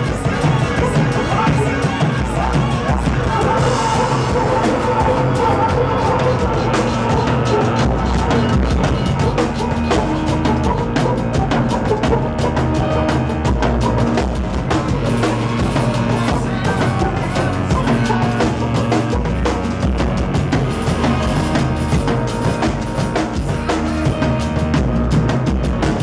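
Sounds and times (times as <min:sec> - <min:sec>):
fast drum kit hits: 0:00.0 - 0:26.0
live band playing loud music: 0:00.0 - 0:26.0.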